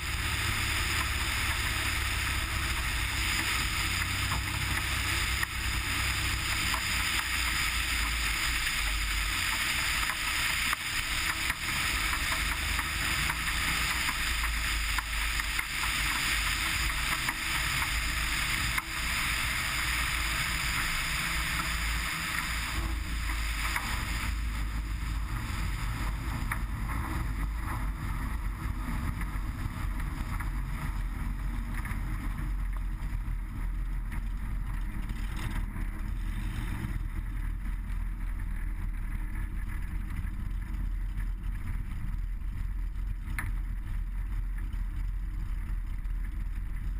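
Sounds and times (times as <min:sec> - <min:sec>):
propeller plane engine running: 0:00.0 - 0:46.9.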